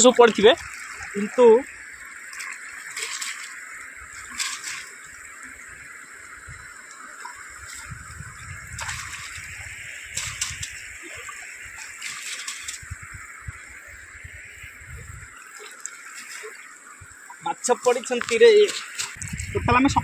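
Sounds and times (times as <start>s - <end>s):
water splashing from net: 0.0s - 13.4s, 15.4s - 16.9s, 17.7s - 19.8s
flowing water rushing: 0.0s - 20.0s.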